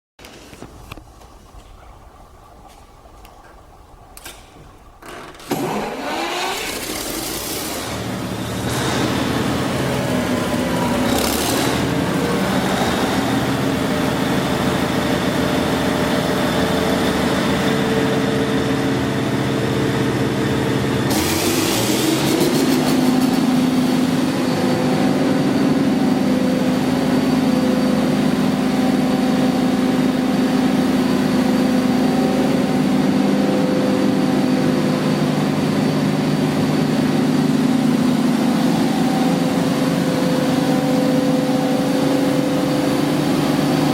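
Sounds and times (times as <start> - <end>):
diesel generator running: 0.4 - 43.9.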